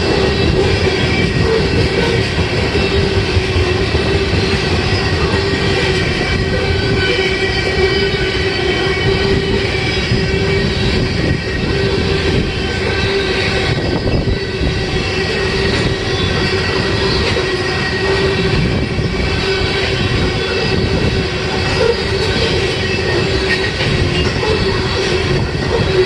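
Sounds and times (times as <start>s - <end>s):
steady whining tone: 0.0s - 26.0s
train wheels rumbling on rail: 0.0s - 26.0s.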